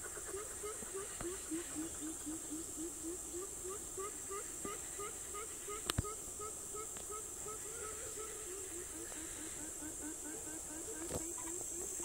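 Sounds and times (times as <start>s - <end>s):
high insect buzz: 0.0s - 12.0s.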